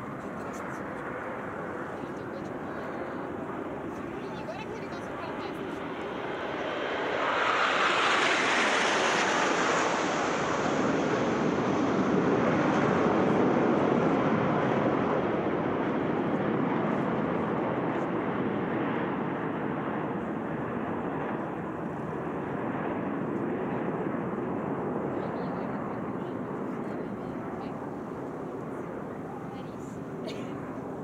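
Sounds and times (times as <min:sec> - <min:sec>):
jets flying past roaring: 0:00.0 - 0:31.0.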